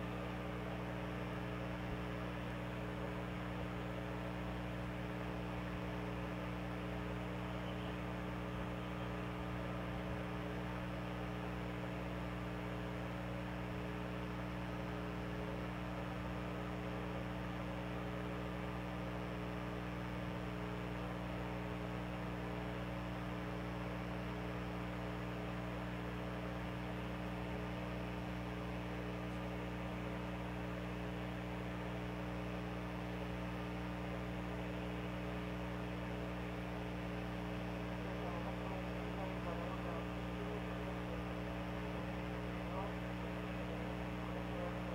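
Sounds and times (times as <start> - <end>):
steady electrical hum: 0.0 - 44.9.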